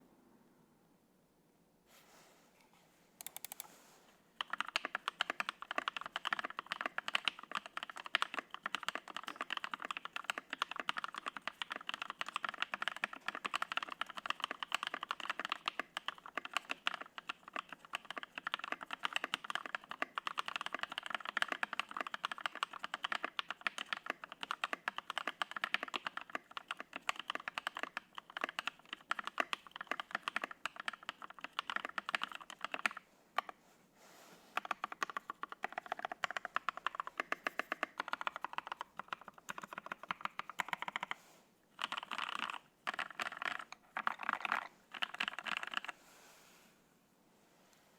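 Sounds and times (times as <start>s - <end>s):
mechanical keyboard typing: 3.2s - 3.7s, 4.4s - 33.6s, 34.6s - 41.2s, 41.8s - 46.0s.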